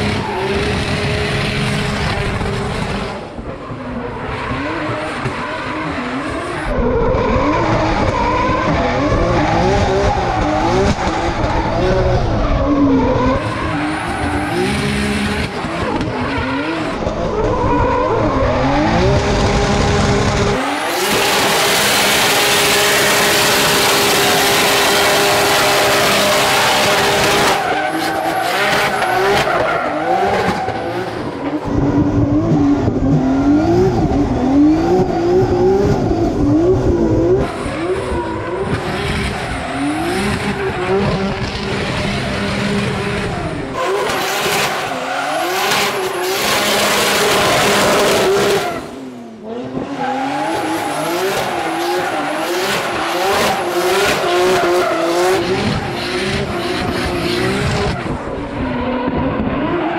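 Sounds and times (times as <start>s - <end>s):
car engine revving: 0.0s - 59.9s
tires squealing and spinning: 0.0s - 59.9s.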